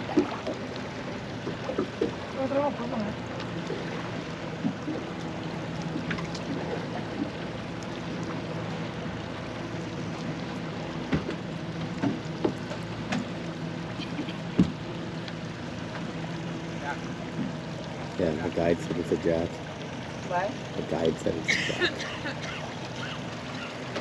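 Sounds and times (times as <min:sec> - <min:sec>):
boat engine running: 0:00.0 - 0:24.0
water sloshing around hull: 0:00.0 - 0:24.0.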